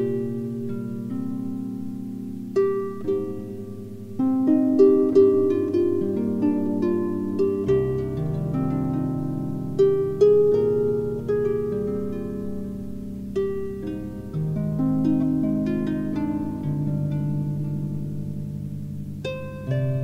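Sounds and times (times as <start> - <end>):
celtic plucked string music: 0.0 - 20.0.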